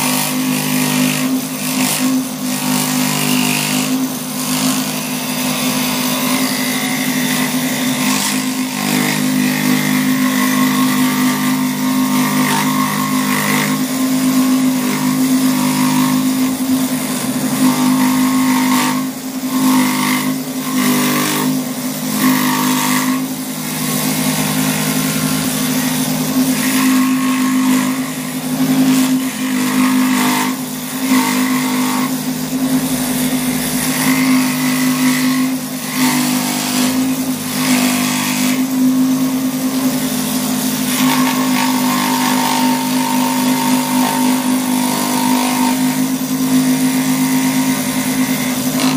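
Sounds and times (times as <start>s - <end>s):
saw blade cutting wood: 0.0s - 48.9s
scroll saw humming: 0.0s - 48.9s.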